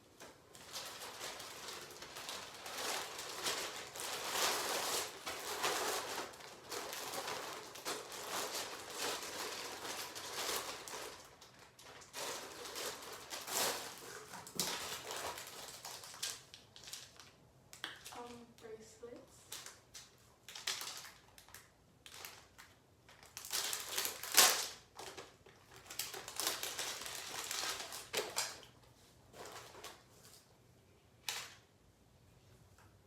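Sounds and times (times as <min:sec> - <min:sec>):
plastic packaging crinkling: 0:00.0 - 0:18.7, 0:19.4 - 0:30.5.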